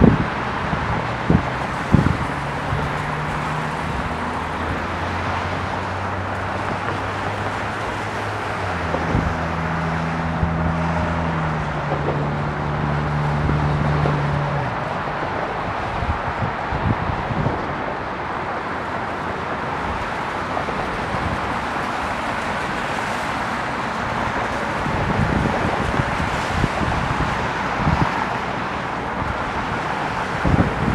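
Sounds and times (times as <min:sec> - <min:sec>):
engine hum: 0:00.0 - 0:30.9.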